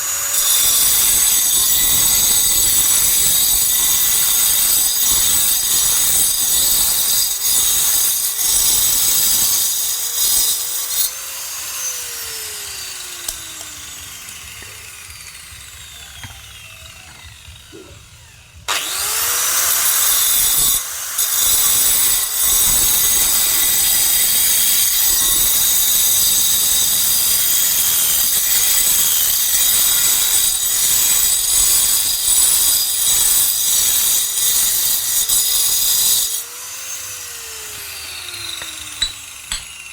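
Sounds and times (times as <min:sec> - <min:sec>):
power tool grinding stone: 0:00.0 - 0:39.9.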